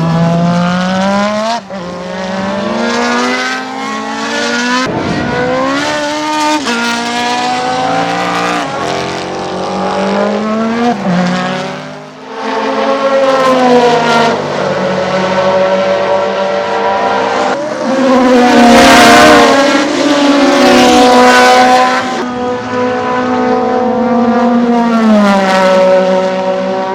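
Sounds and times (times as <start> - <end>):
racing car engine: 0.0 - 26.9.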